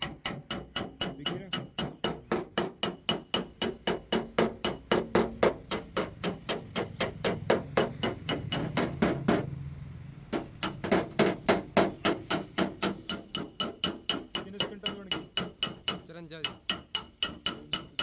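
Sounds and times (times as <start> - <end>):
hammer tapping on car panel: 0.0 - 9.5, 10.3 - 18.0.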